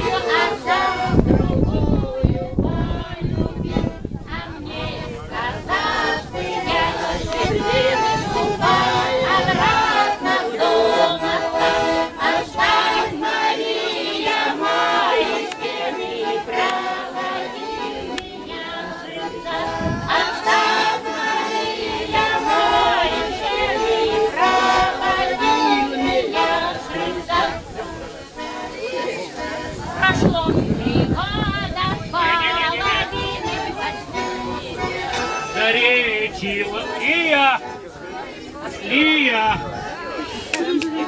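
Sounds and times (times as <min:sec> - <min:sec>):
button accordion chords: 0:00.0 - 0:41.0
group singing folk song: 0:00.0 - 0:41.0.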